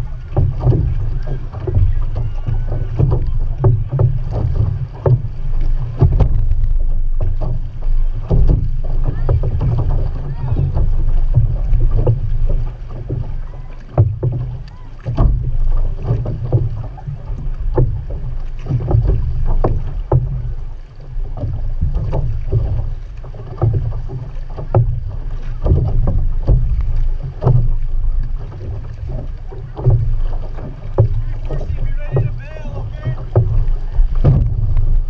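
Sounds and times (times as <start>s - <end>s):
paddles splashing: 0.0s - 35.0s
water and wind along hull: 0.0s - 35.0s.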